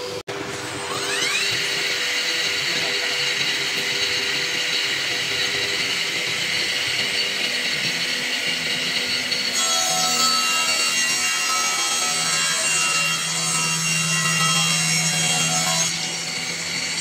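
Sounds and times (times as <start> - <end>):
saw blade spinning whine: 0.0 - 17.0.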